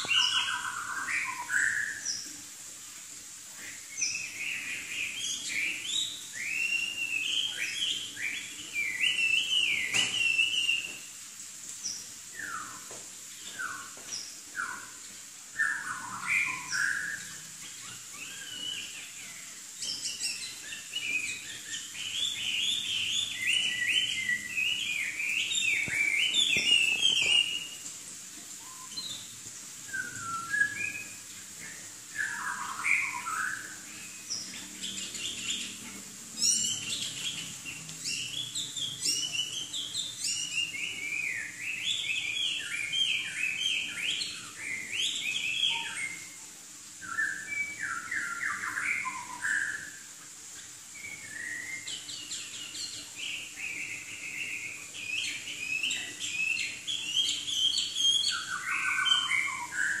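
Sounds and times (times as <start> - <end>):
songbird singing: 0.0 - 2.5, 3.6 - 60.0.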